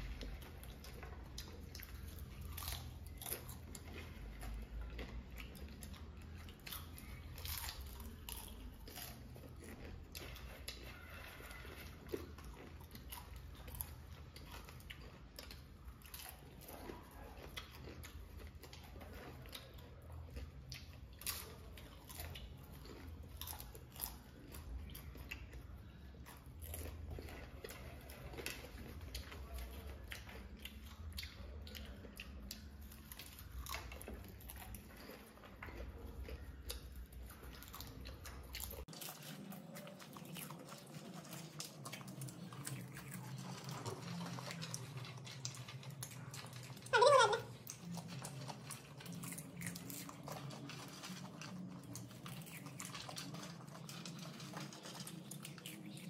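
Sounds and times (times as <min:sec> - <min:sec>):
people crunching popcorn: 0:00.0 - 0:56.0.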